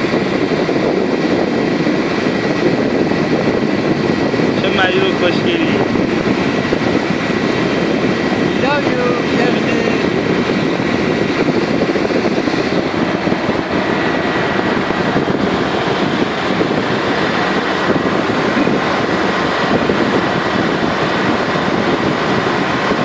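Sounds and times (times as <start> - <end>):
loud mechanical noise: 0.0 - 23.0.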